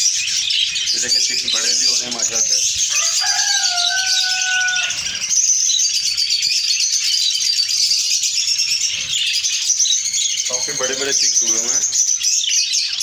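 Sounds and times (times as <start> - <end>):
birds chattering and chirping: 0.0 - 13.0.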